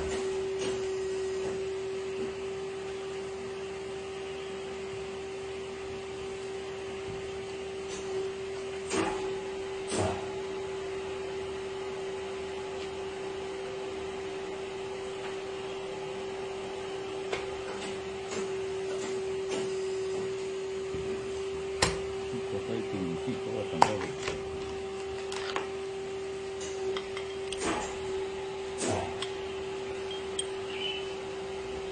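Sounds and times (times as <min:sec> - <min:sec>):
machine motor hum: 0:00.0 - 0:31.9.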